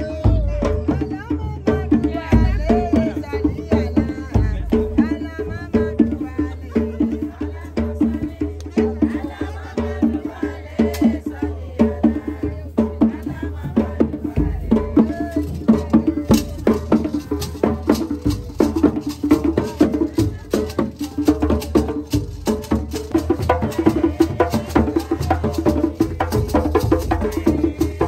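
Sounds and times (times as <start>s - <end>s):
hand drums playing fast rhythm: 0.0s - 28.0s.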